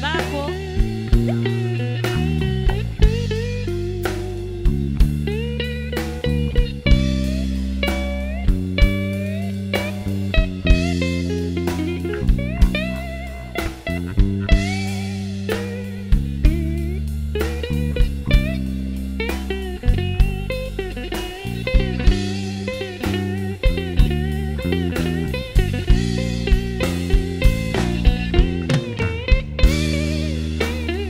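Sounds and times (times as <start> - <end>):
bass line: 0.0 - 31.0
bending guitar solo: 0.0 - 31.0
drum kit steady beat: 0.0 - 31.0.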